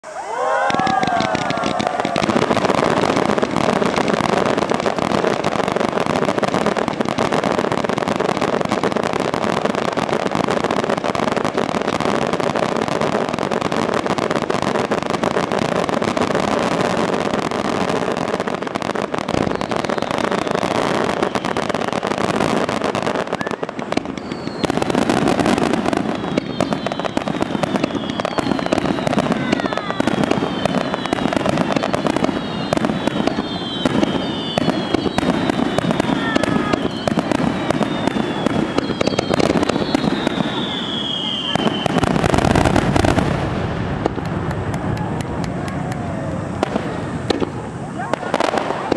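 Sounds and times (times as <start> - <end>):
fireworks crackling and bangs: 0.0 - 48.9
whistling firework shells: 0.0 - 48.9.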